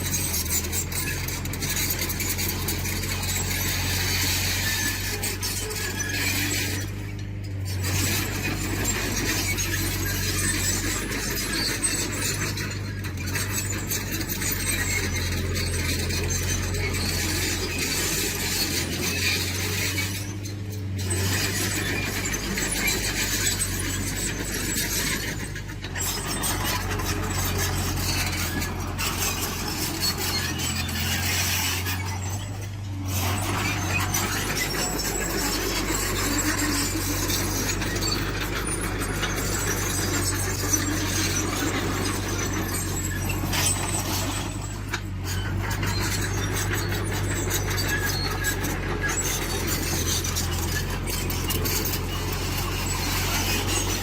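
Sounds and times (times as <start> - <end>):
diesel engine running: 0.0 - 54.0
steel tracks squealing and clinking: 0.0 - 54.0.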